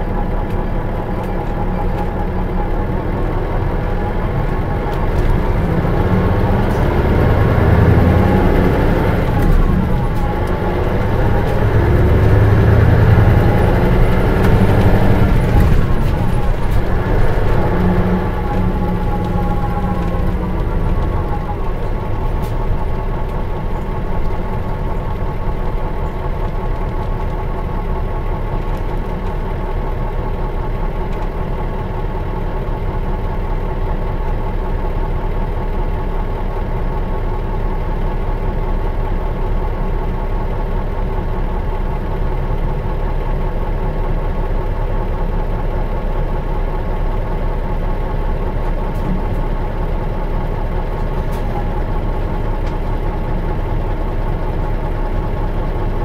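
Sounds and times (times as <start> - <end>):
diesel bus engine idling: 0.0 - 56.0.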